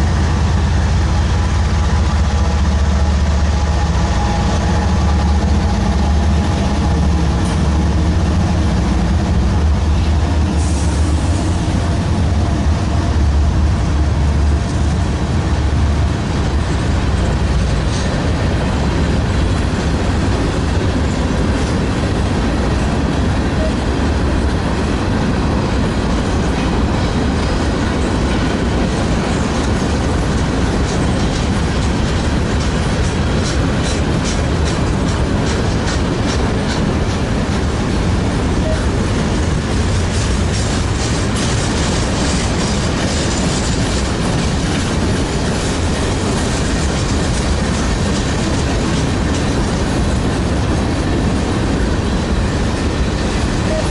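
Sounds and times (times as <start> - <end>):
diesel locomotive engines droning: 0.0 - 53.9
freight cars rumbling on rails: 0.0 - 53.9.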